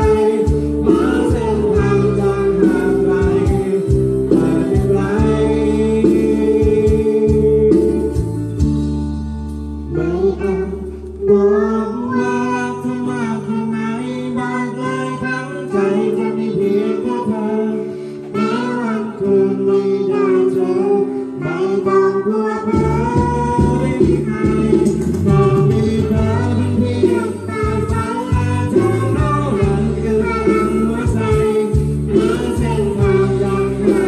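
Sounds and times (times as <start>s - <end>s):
girl singing into microphone: 0.0s - 8.6s, 9.8s - 34.0s
karaoke backing music: 0.0s - 34.0s.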